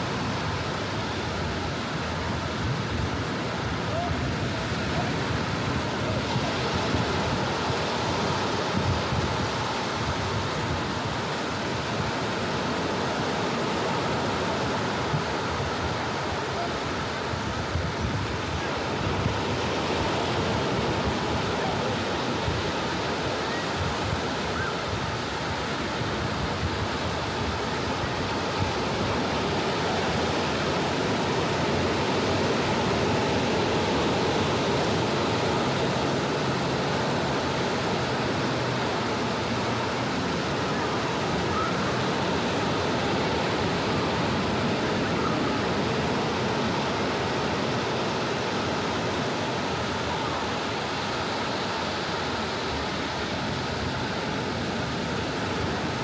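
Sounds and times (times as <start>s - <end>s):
small waves washing onto beach: 0.0s - 56.0s.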